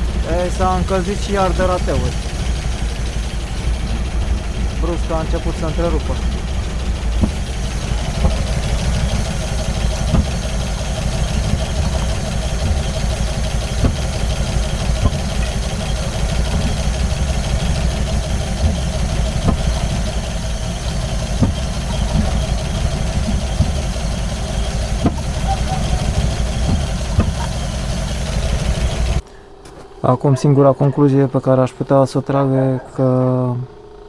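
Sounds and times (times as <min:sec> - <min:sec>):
engine misfire pops: 0:00.0 - 0:30.0
engine idling unevenly: 0:00.0 - 0:34.0.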